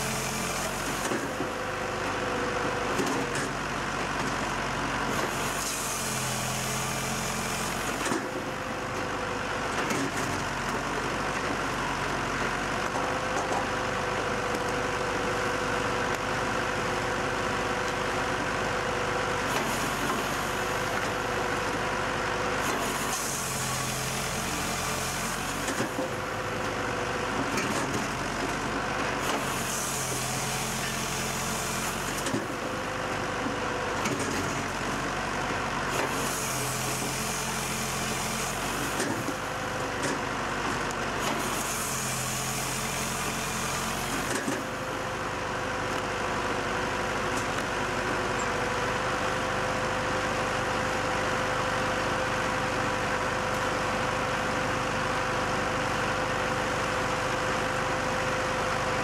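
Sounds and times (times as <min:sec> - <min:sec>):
firewood processor running: 0:00.0 - 0:59.0.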